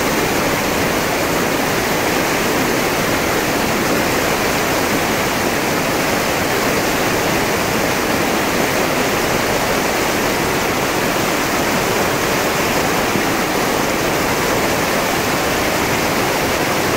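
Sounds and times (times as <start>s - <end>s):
rapids rushing over rocks: 0.0s - 16.9s.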